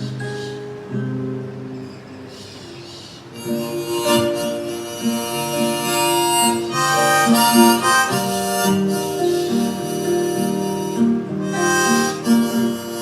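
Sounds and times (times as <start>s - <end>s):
acoustic guitar: 0.0s - 13.0s
harmonica melody: 2.4s - 13.0s.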